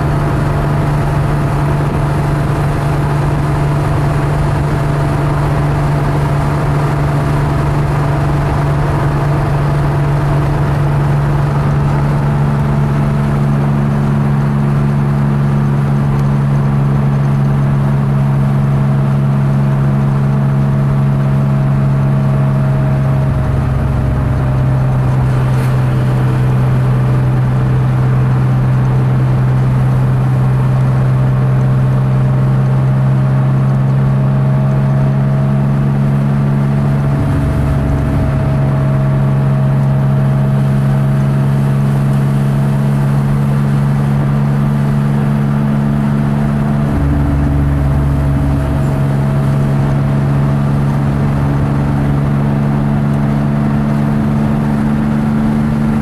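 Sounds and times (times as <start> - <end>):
car engine running at cruise: 0.0 - 56.0.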